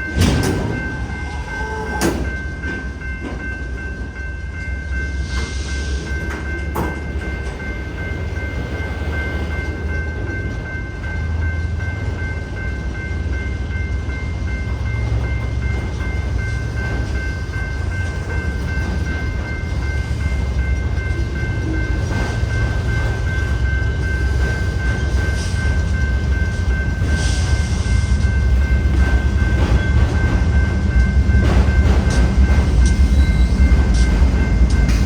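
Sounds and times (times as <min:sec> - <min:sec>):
crossing bell ringing: 0:00.0 - 0:35.0
freight train rumble: 0:00.0 - 0:35.0.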